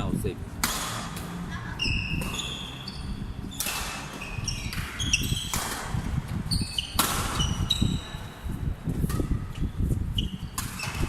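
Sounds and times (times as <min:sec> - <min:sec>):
sports shoes squeaking on court: 0:00.7 - 0:11.0.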